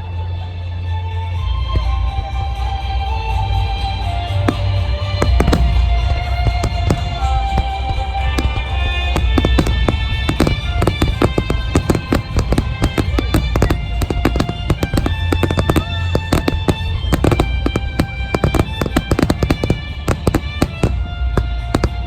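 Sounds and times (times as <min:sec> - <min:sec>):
music with long held notes: 0:00.0 - 0:22.0
fireworks cracking and booming: 0:01.8 - 0:22.0.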